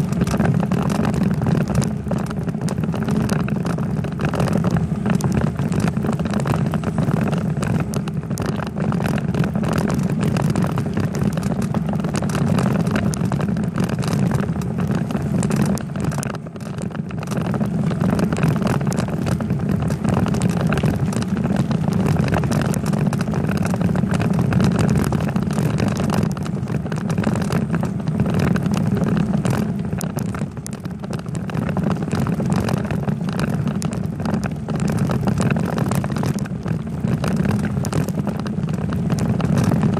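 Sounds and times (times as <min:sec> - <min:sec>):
bicycle tyre rumble: 0:00.0 - 0:39.9
wind noise: 0:00.0 - 0:39.9.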